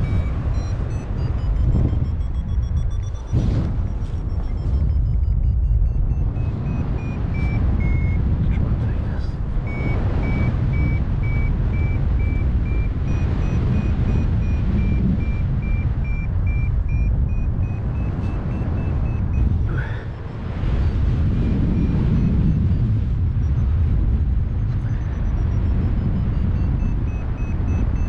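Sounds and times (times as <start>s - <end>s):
variometer beeping with rising pitch: 0.0s - 8.6s, 9.4s - 28.0s
wind noise on microphone: 0.0s - 28.0s.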